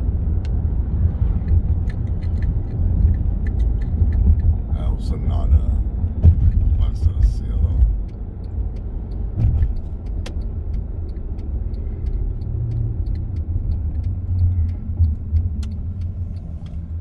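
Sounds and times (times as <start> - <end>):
car engine and tyres rumbling: 0.0 - 17.0
light ticks: 1.2 - 17.0.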